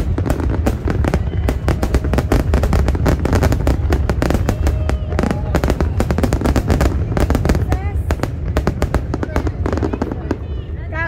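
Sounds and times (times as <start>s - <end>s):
firework shells bursting and crackling: 0.0s - 10.8s.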